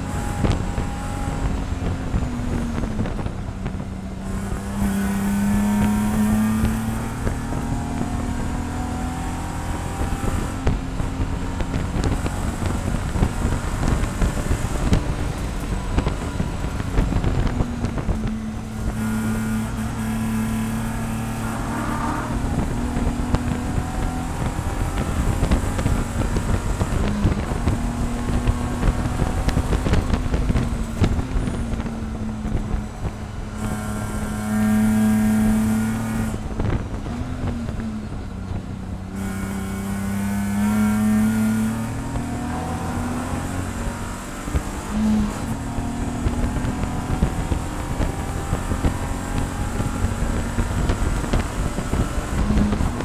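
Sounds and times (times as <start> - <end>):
race car engine revving: 0.0 - 53.0
wind and road noise: 0.0 - 53.0.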